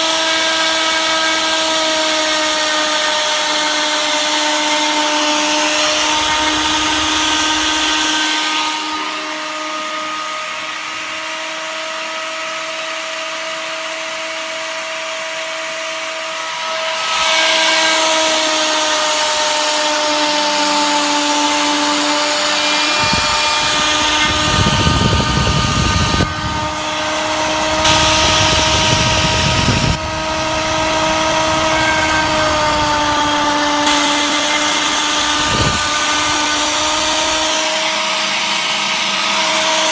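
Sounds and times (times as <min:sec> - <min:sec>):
cutting hiss of milling bit: 0:00.0 - 0:13.4, 0:16.0 - 0:39.9
grinder spindle whine: 0:00.0 - 0:39.9.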